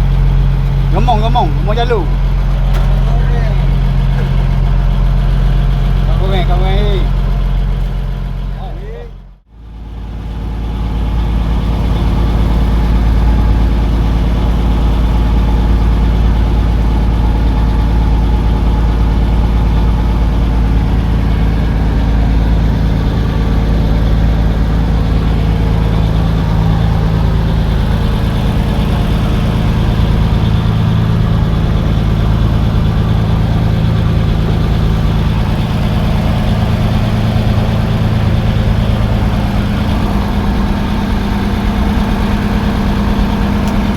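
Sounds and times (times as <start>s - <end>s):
boat engine low drone: 0.0s - 43.9s.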